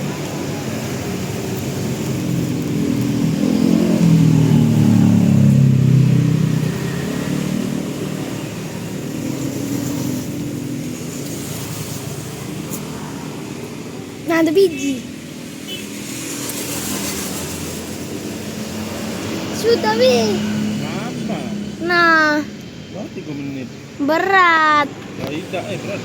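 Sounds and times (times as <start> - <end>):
passing vehicle engine: 0.0 - 26.0.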